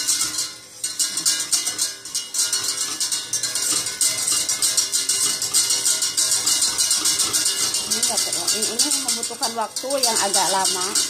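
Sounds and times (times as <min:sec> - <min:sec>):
metal whisk beating in a pot: 0:00.0 - 0:11.0.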